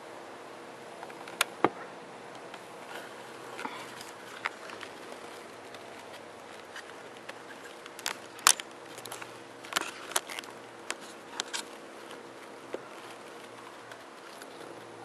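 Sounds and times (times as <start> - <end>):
faint steady hum: 0.0 - 15.0
handling clicks and crackles: 1.0 - 15.0.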